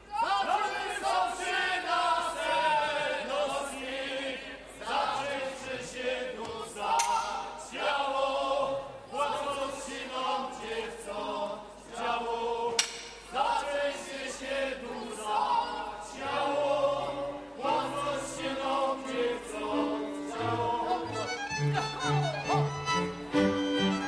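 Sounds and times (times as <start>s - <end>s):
group singing folk songs: 0.1s - 24.0s.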